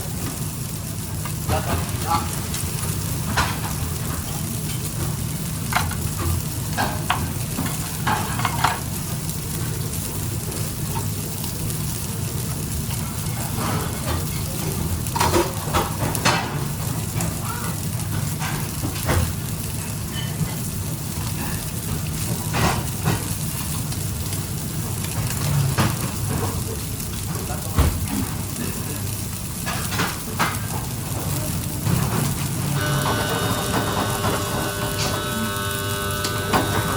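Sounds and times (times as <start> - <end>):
food sizzling in a pan: 0.0 - 36.9.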